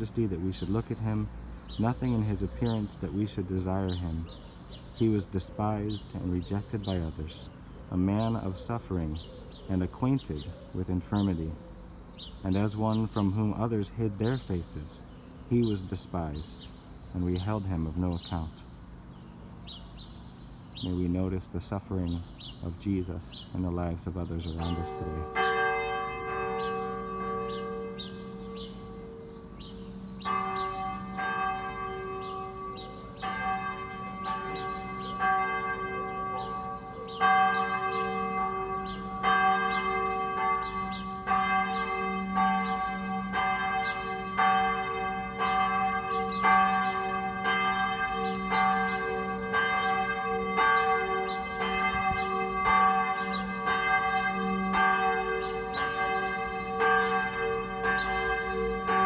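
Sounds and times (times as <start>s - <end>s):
church bells pealing: 0.0s - 11.6s, 12.4s - 16.6s, 17.2s - 18.6s, 20.8s - 59.0s.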